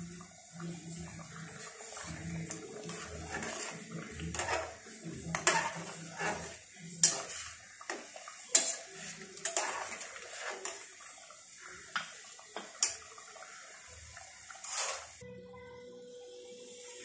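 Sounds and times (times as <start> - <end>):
ladle stirring liquid: 0.0 - 15.2.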